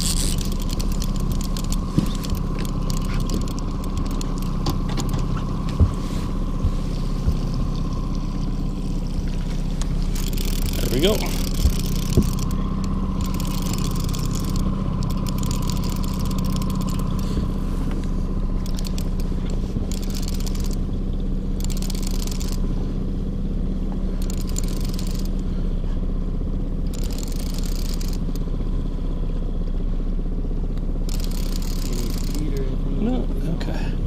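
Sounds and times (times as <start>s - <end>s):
outboard motor droning: 0.0s - 34.0s.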